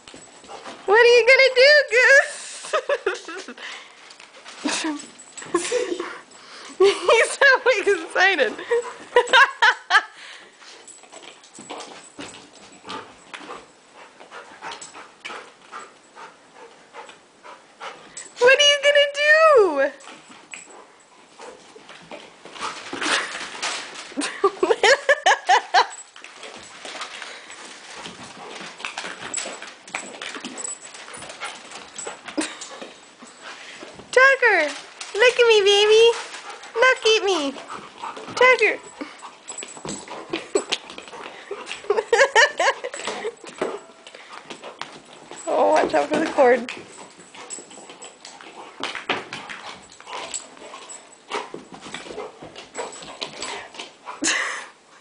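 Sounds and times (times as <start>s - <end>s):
rustling and clicking: 0.0s - 9.7s, 10.5s - 18.4s, 19.9s - 54.3s.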